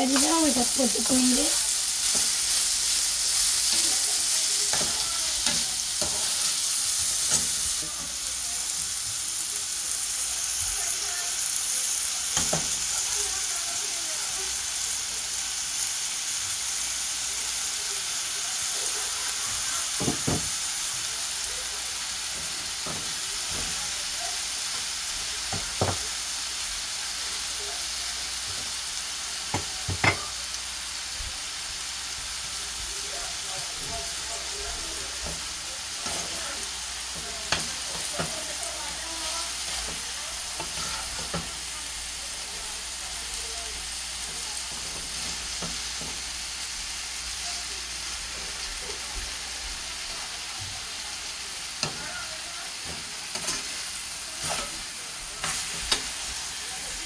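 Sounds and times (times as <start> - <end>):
greens sizzling in a pan: 0.0 - 57.0.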